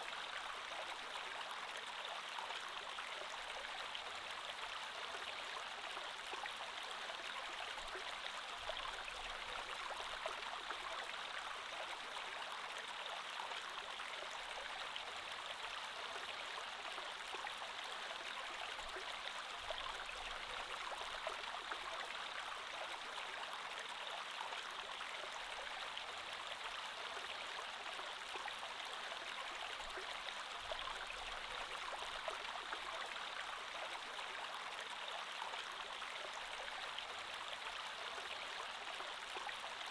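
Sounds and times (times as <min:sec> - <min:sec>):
creek flowing: 0:00.0 - 0:39.9.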